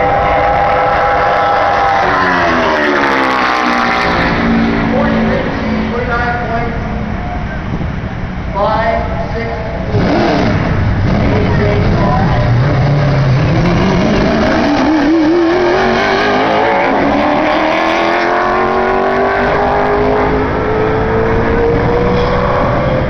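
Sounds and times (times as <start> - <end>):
race car engine accelerating: 0.0 - 8.4, 9.7 - 23.0.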